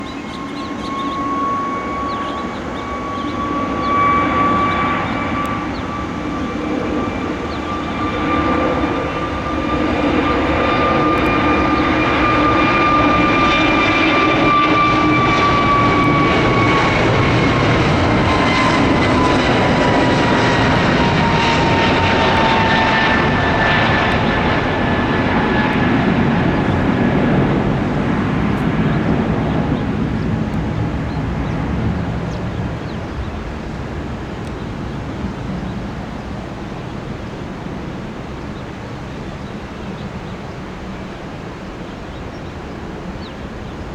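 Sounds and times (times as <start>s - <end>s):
jet engines roaring with whine: 0.0s - 43.9s.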